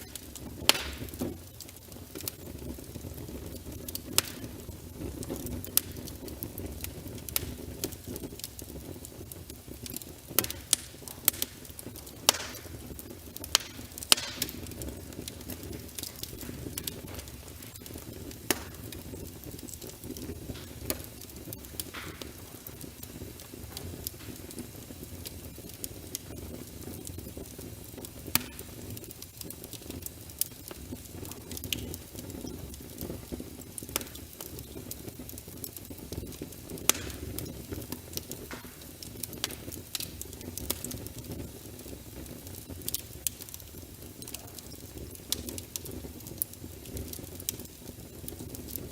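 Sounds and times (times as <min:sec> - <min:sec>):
fire crackles and pops: 0:00.0 - 0:48.9
fire low rumble: 0:00.0 - 0:48.9.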